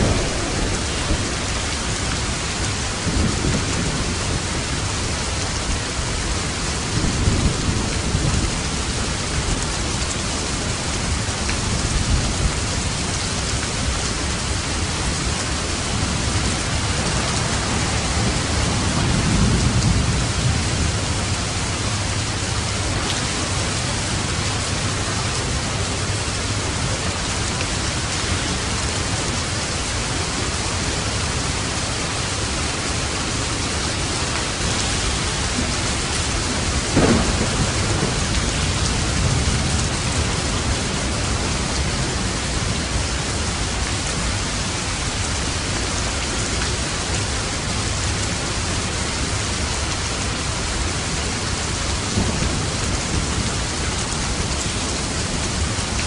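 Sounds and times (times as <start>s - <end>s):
thunderclap rumbling: 0.0s - 10.1s, 10.7s - 44.0s, 51.9s - 55.7s
heavy rain on a roof: 0.0s - 56.0s.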